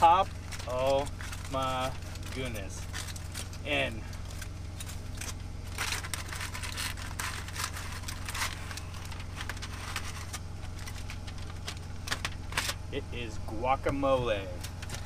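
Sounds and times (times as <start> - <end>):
aluminum foil crinkling: 0.0 - 12.8, 14.4 - 15.0
steady low hum: 0.0 - 15.0.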